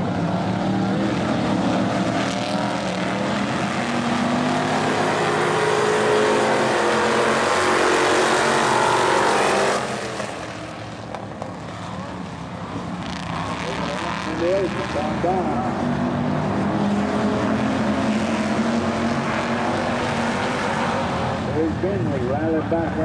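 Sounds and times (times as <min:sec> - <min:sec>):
stock car engines racing: 0:00.0 - 0:23.0.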